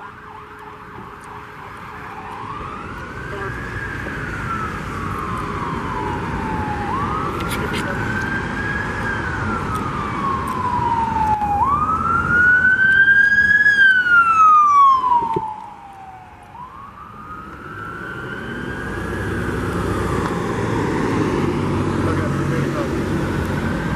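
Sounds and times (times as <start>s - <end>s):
electronic siren wailing: 0.0s - 20.6s
engine and road noise: 0.0s - 23.9s.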